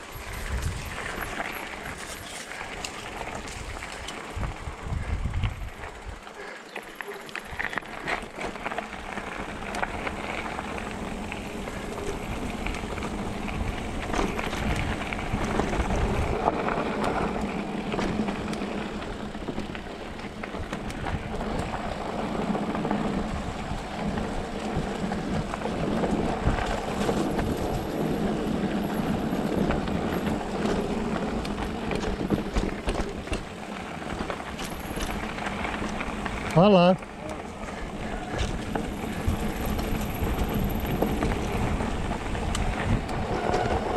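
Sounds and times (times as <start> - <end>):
wind rushing over microphone: 0.0 - 6.2, 9.1 - 36.5, 37.4 - 43.9
bike rattling over bumps: 0.0 - 43.9
tyres crunching on gravel: 0.0 - 43.9.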